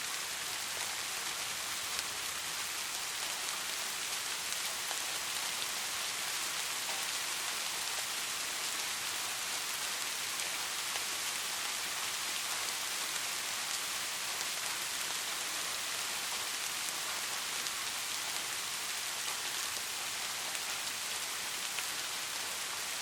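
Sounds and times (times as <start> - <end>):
soft rain falling: 0.0 - 23.0.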